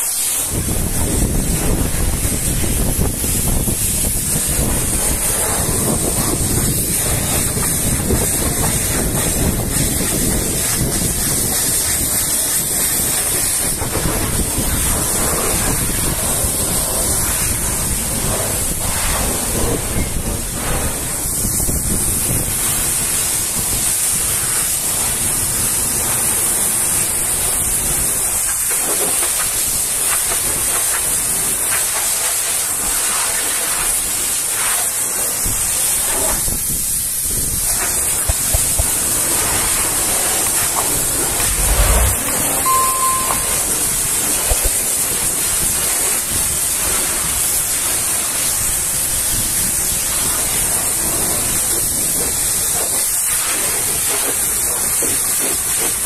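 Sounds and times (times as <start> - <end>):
pressure washer spraying water: 0.0 - 19.6, 20.2 - 56.0
wind noise on microphone: 0.1 - 28.6, 35.4 - 54.1.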